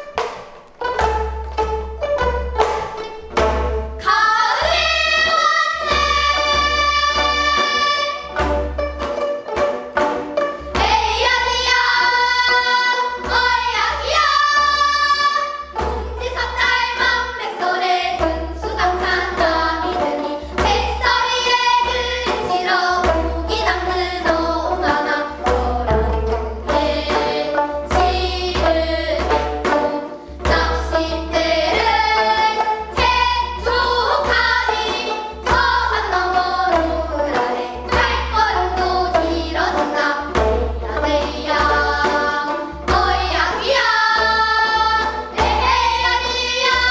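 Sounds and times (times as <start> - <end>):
plucked zither strings: 0.0 - 46.9
girls singing together: 4.0 - 8.4, 10.6 - 46.9.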